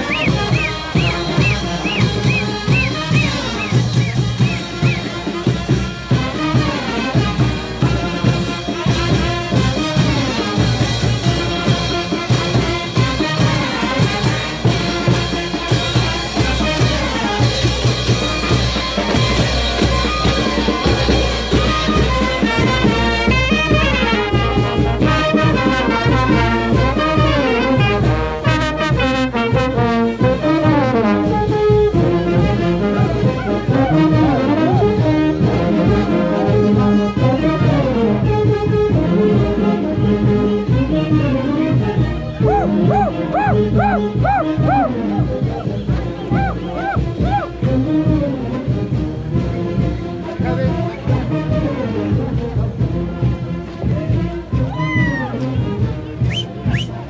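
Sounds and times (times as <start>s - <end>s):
brass band playing dance tune: 0.0s - 57.0s.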